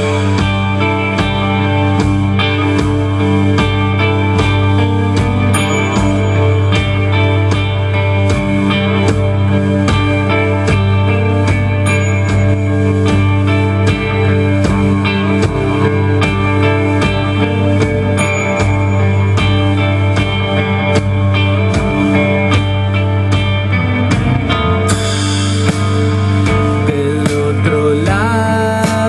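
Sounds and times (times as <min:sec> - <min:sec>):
drum kit: 0:00.0 - 0:29.0
electric guitars: 0:00.0 - 0:29.0
keyboard: 0:00.0 - 0:29.0.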